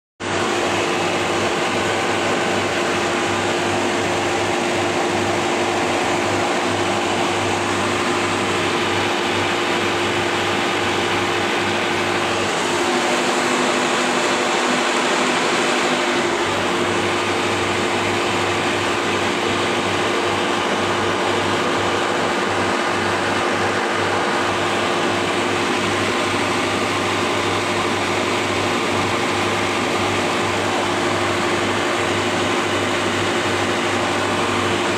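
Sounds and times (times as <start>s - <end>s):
machinery drone: 0.2s - 34.9s.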